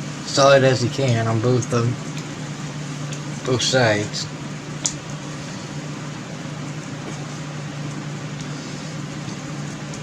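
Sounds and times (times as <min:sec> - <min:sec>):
mechanical hum: 0:00.0 - 0:10.0.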